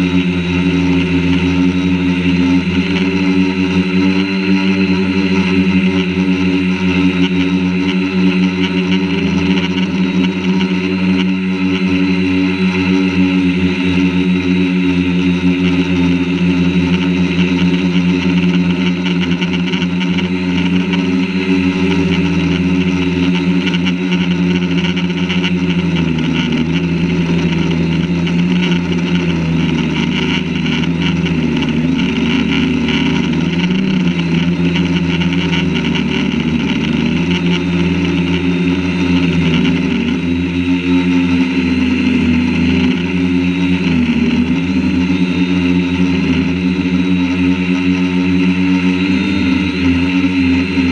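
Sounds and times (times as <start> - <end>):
drone propellers buzzing: 0.0 - 50.9.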